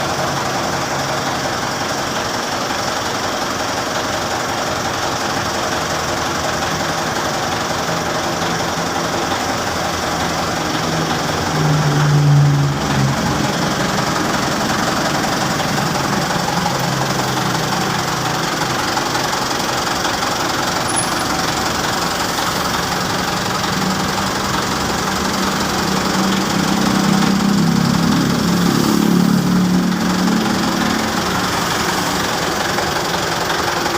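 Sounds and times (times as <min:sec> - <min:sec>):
diesel engine clattering: 0:00.0 - 0:33.9.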